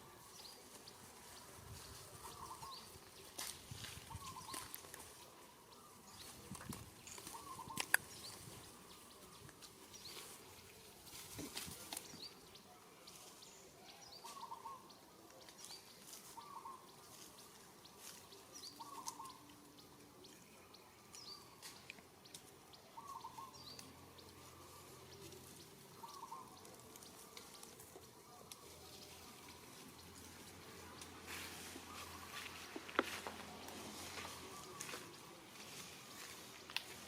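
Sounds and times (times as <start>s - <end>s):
faint outdoor ambience: 0.0s - 37.0s.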